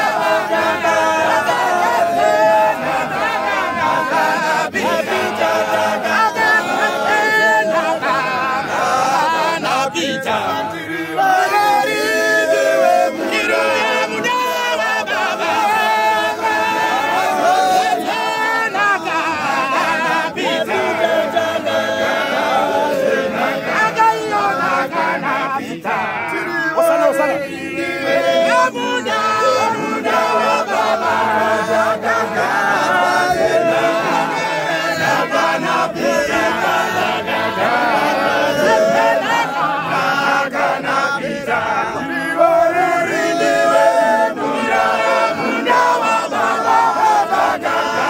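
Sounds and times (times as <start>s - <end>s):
men singing unaccompanied: 0.0s - 48.0s.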